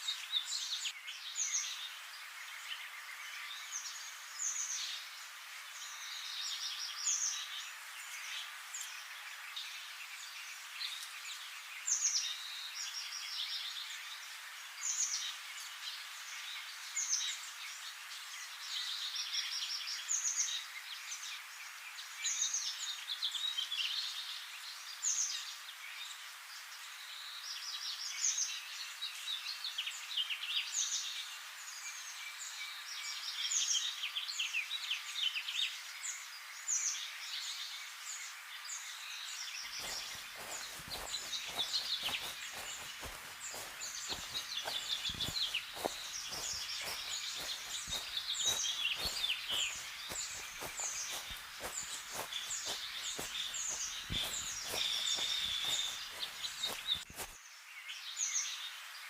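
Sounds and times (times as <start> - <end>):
background hiss: 0.0 - 59.0
small birds chirping: 0.0 - 59.0.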